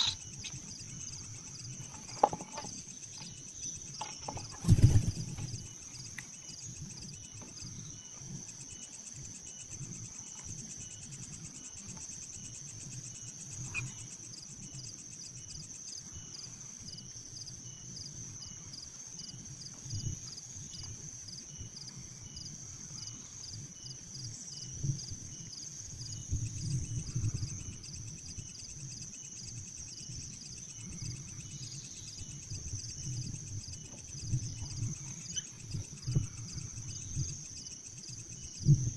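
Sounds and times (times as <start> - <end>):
insect chorus pulsing trill: 0.0 - 38.9.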